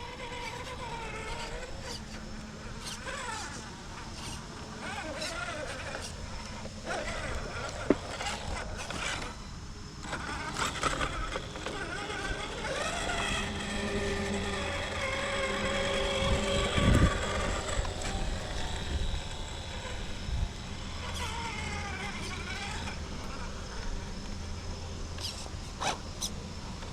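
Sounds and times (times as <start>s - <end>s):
electric motor whining: 0.0s - 26.9s.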